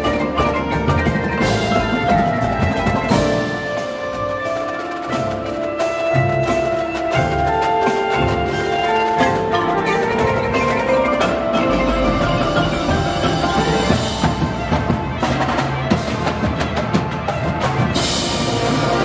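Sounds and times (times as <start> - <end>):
marimbas playing: 0.0 - 19.0.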